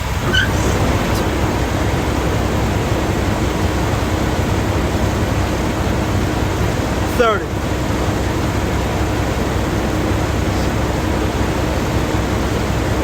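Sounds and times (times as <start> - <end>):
rushing vehicle noise: 0.0 - 13.0.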